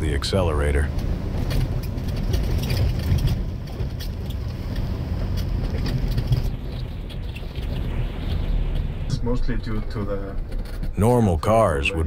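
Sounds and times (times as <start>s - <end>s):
knocks and rattles: 0.9s - 11.3s.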